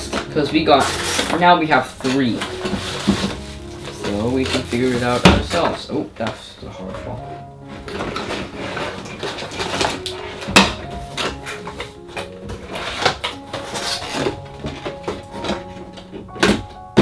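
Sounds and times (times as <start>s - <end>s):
background music: 0.0s - 17.0s
plastic and cardboard packaging rustling: 0.0s - 17.0s.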